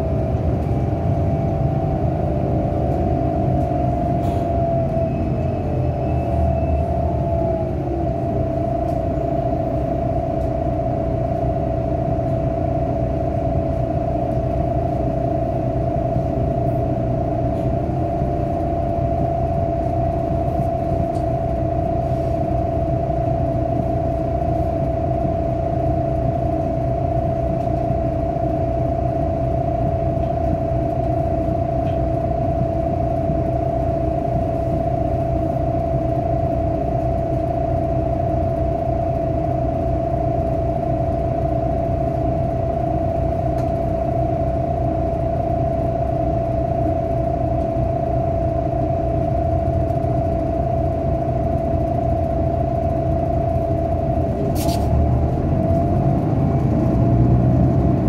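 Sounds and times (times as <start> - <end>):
bus engine rumbling with whine: 0.0 - 58.0.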